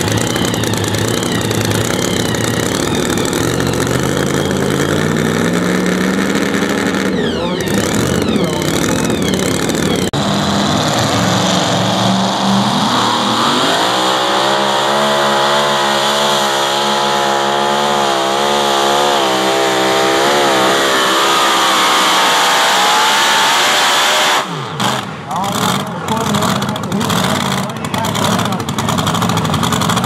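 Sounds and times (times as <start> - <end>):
engine revving at full throttle: 0.0 - 30.0.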